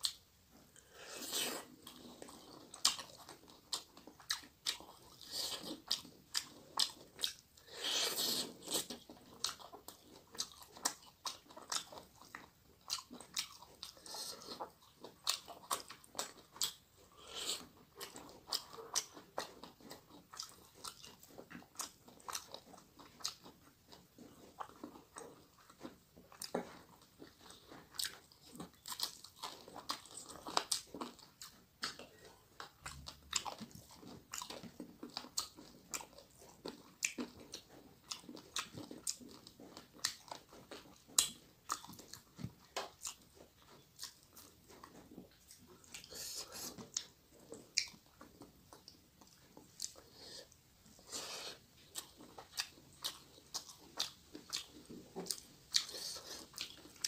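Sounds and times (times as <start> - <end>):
person chewing and lip smacking: 0.0 - 57.0.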